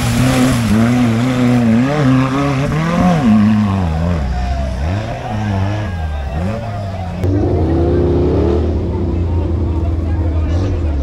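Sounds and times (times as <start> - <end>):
engine revving under load: 0.0 - 11.0.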